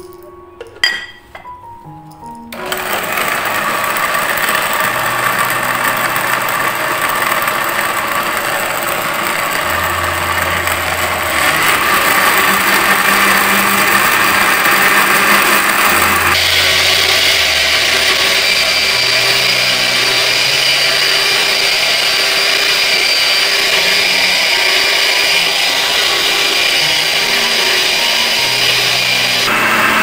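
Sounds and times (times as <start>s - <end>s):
blender grinding: 2.5s - 30.0s.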